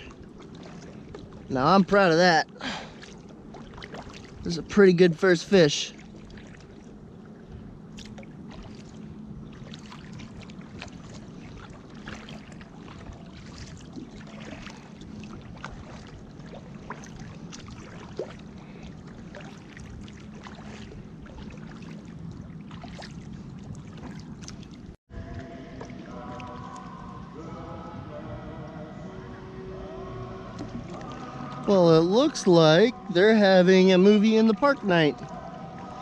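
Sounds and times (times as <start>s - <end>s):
water lapping and splashing: 0.0s - 36.0s.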